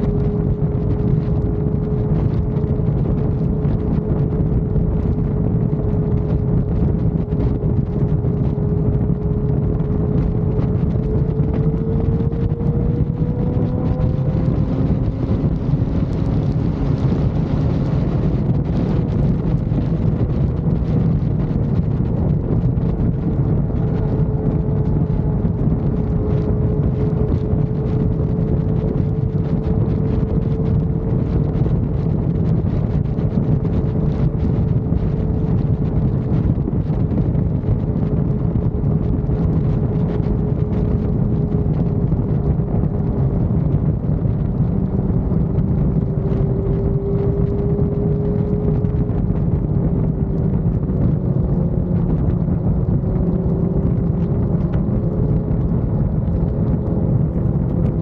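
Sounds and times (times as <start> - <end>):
motorcycle engine cruising: 0.0 - 58.0
wind noise on microphone: 0.0 - 58.0.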